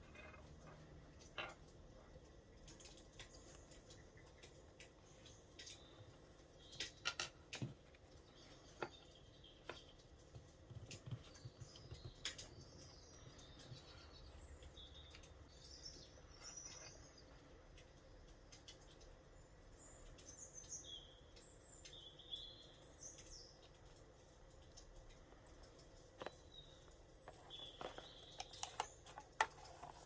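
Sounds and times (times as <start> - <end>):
sharp clicks and crackles: 0.0 - 22.0, 22.7 - 30.0
faint birds chirping: 0.0 - 30.0.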